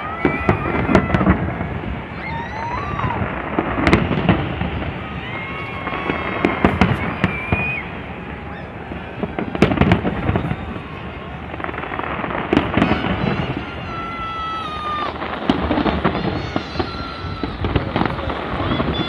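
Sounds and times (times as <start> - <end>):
fireworks bangs: 0.0 - 19.0
fireworks crackle: 0.0 - 19.0.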